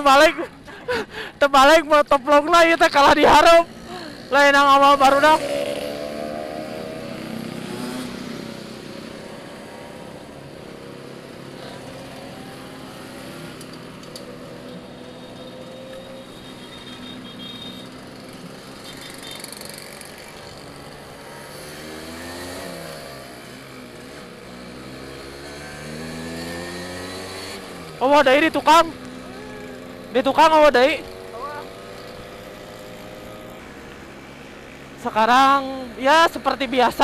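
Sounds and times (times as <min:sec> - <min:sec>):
scooter engine running: 0:03.3 - 0:35.0.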